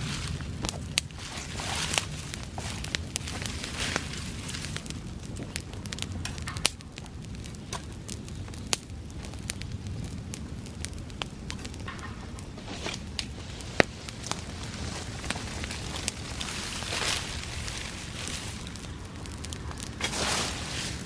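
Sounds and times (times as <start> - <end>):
fire crackles and pops: 0.0 - 21.0
grass fire burning: 0.0 - 21.0.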